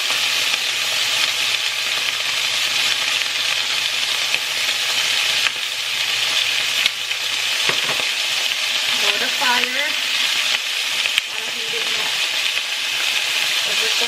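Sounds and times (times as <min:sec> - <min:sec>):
pork sizzling in hot oil: 0:00.0 - 0:14.0.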